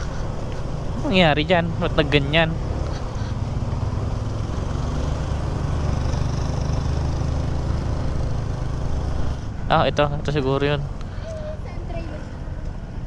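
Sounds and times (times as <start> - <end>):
road and wind noise: 0.0 - 13.0
scooter engine humming: 0.0 - 13.0.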